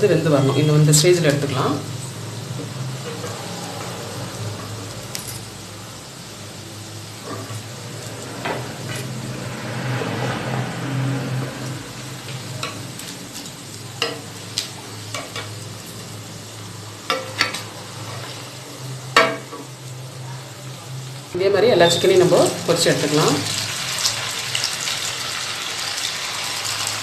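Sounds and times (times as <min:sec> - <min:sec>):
food deep-frying in oil: 0:00.0 - 0:27.0.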